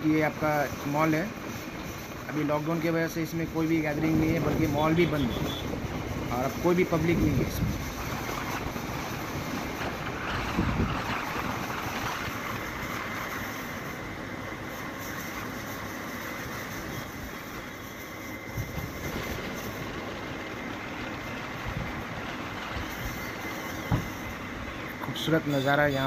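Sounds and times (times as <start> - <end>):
wind rushing over microphone: 0.0 - 13.8, 16.5 - 25.0.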